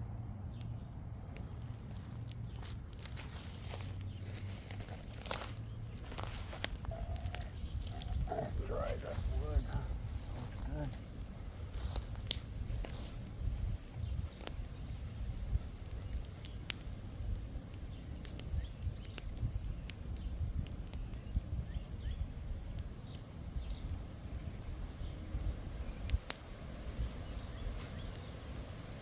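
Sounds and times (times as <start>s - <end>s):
steady low rumble: 0.0s - 28.3s
campfire crackling: 0.0s - 29.0s
sharp fire pops: 0.5s - 10.0s, 10.7s - 29.0s.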